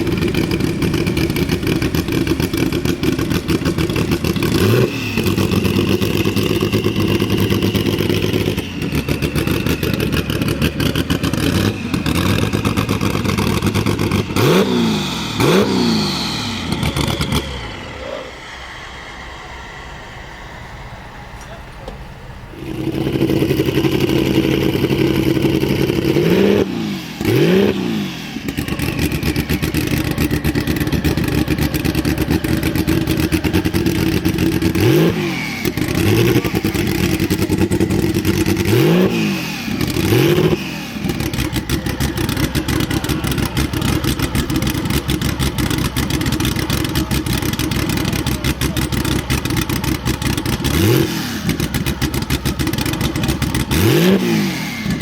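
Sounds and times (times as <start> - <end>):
engine throttle blips: 0.0 - 55.0
racing car engine idling: 0.0 - 55.0.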